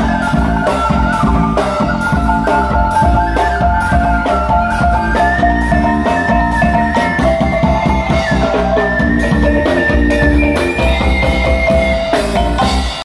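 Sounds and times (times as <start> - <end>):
bass line: 0.0 - 13.0
drum kit: 0.0 - 13.0
electric guitar: 0.0 - 13.0.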